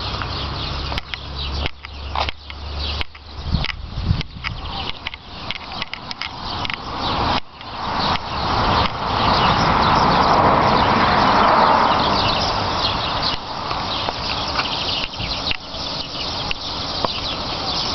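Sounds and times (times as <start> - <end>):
car passing: 0.0 - 17.9.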